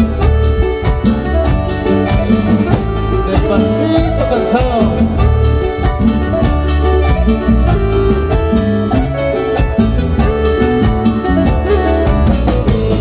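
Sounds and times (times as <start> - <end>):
drum kit beat: 0.0 - 13.0
electronic keyboards playing: 0.0 - 13.0.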